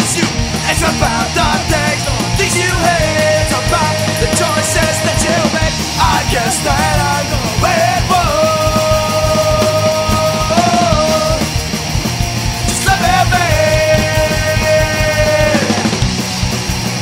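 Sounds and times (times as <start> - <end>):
singer holding long notes: 0.0 - 11.6, 12.6 - 16.1
pop-punk band playing: 0.0 - 17.0.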